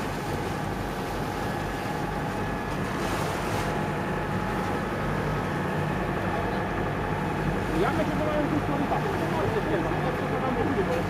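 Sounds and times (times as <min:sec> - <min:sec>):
boat engine running: 0:00.0 - 0:11.0
water rushing along hull: 0:00.0 - 0:11.0.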